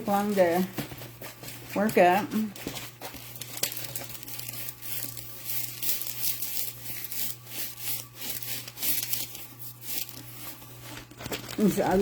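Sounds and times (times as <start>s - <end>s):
plastic film crinkling and rustling: 0.0s - 12.0s.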